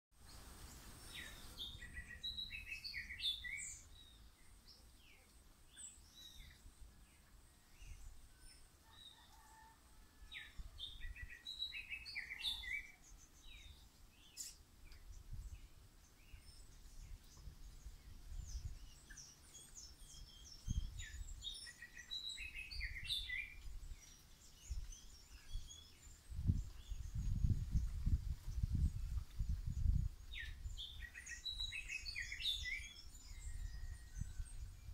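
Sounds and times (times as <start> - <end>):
birds chirping: 0.3 - 9.6, 10.4 - 34.9.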